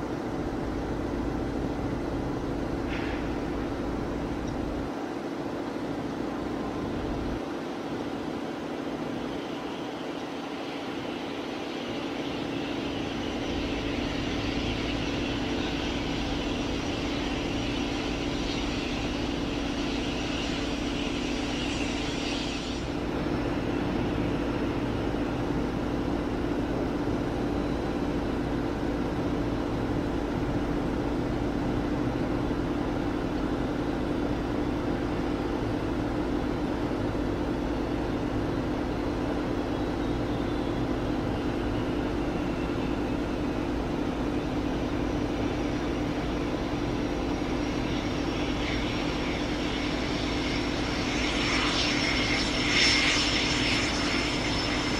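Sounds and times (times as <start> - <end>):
high hissing whine: 0.0 - 54.9
jet engine drone: 0.0 - 54.9.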